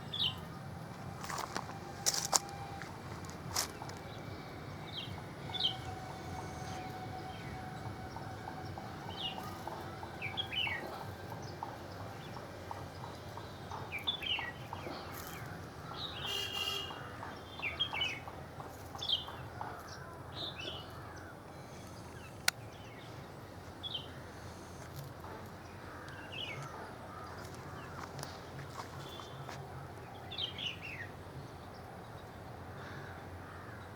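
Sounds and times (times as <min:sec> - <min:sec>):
birds chirping: 0:00.0 - 0:33.9
outdoor background hiss: 0:00.0 - 0:33.9.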